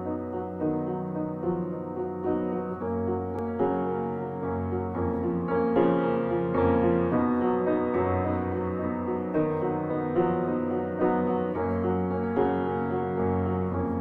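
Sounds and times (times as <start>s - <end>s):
piano background music: 0.0s - 14.0s.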